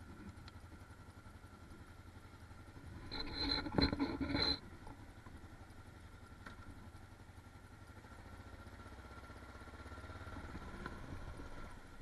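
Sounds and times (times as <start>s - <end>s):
motorcycle engine chugging: 0.0s - 12.0s.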